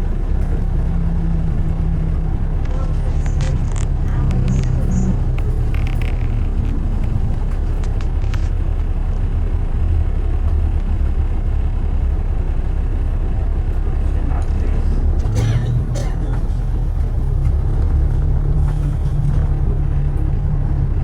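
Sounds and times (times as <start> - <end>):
low engine hum: 0.0 - 21.0
road traffic rumble: 0.0 - 21.0.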